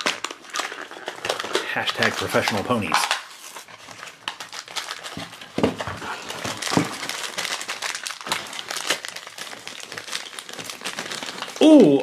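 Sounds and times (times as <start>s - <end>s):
foil bag crinkling and tearing: 0.0s - 12.0s.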